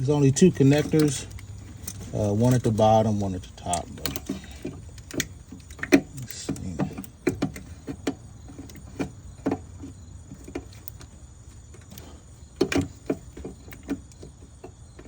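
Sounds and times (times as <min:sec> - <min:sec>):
wiring connectors clicking and knocking: 0:00.0 - 0:15.0.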